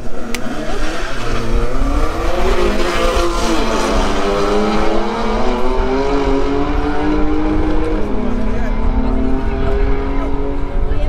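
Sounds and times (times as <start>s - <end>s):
drag racing car engine revving: 0.0s - 11.0s.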